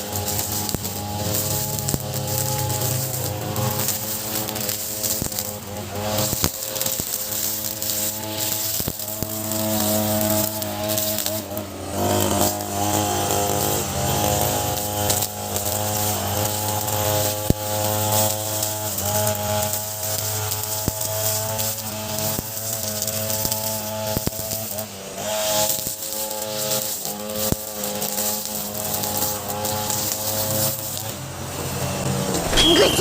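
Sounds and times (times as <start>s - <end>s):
brush cutter engine cutting grass: 0.0s - 33.0s.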